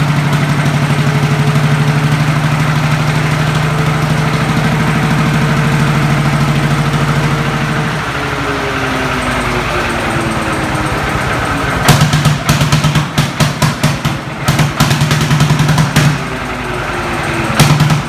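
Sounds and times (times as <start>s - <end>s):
tractor engine running: 0.0s - 18.0s
uneven exhaust bangs: 0.0s - 18.0s.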